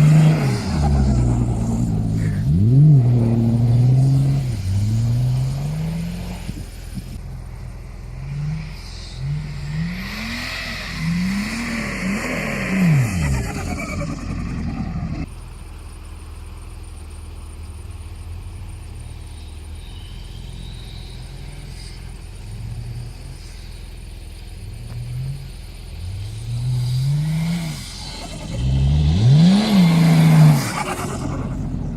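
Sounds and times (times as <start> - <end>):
diesel engine idling and revving: 0.0 - 31.9.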